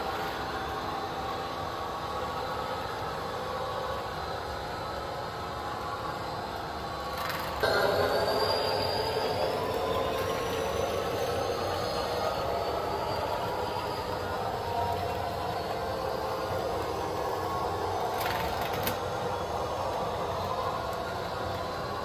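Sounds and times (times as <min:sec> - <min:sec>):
train rumbling and rattling: 0:00.0 - 0:22.0.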